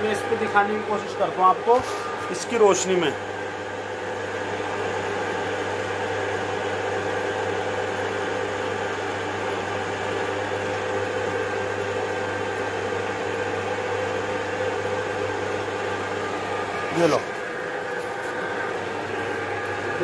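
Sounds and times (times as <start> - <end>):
knife grinding machine running: 0.0 - 20.0.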